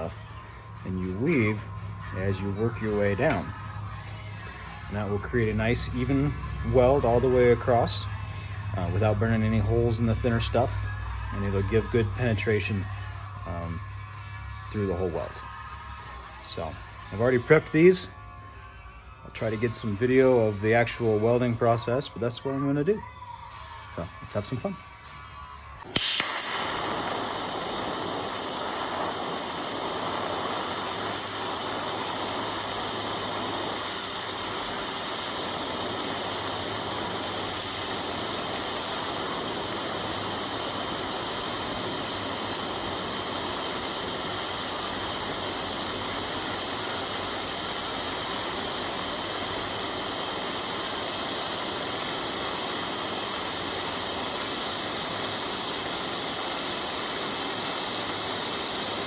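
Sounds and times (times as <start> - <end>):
welding arc hissing: 0.0 - 18.1, 25.4 - 59.0
faint hum: 0.0 - 59.0.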